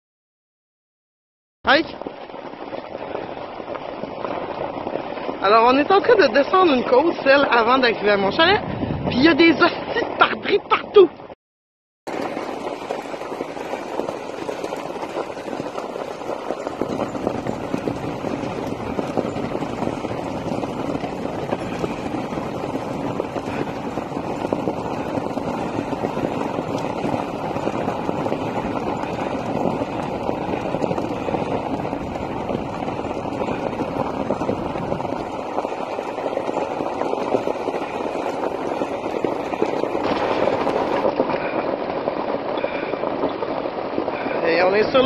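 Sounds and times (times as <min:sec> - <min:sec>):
wheels rolling over gravel: 0:01.7 - 0:10.6, 0:12.1 - 0:45.0.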